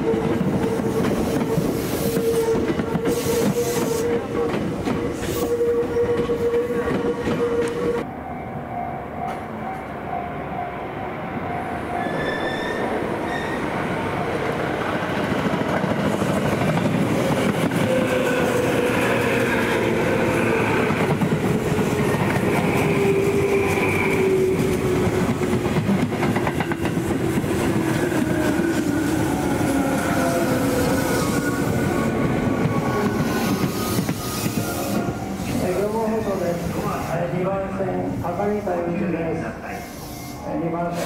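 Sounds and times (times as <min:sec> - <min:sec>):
train wheels rumbling on rails: 0:00.0 - 0:08.1, 0:11.8 - 0:38.8.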